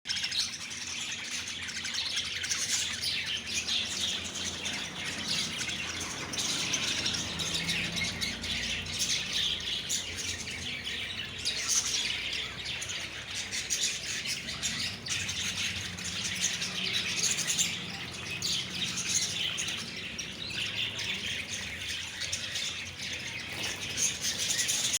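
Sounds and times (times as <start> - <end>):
lovebirds chattering and chirping: 0.1 - 25.0.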